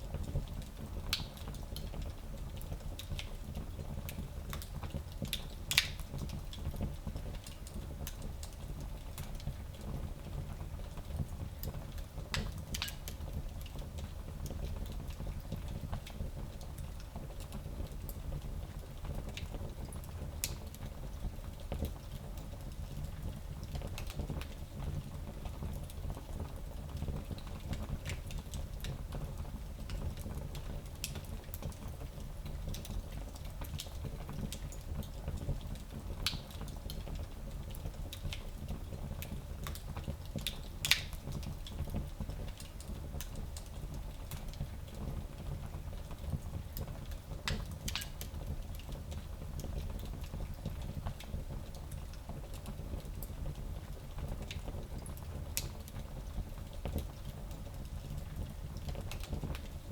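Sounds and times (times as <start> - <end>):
fire crackling and popping: 0.1 - 59.9.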